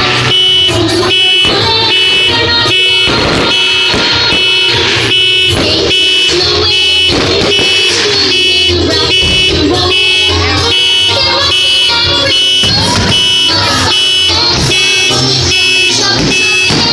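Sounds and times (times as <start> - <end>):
fireworks crackling and bursting: 0.0 - 16.9
repeating electronic tone: 0.0 - 16.9.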